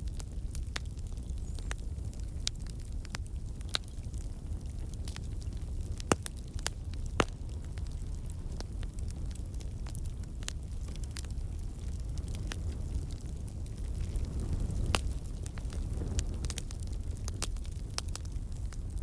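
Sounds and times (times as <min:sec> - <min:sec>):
low rumble of flame: 0:00.0 - 0:19.0
wood crackling and popping: 0:00.0 - 0:19.0.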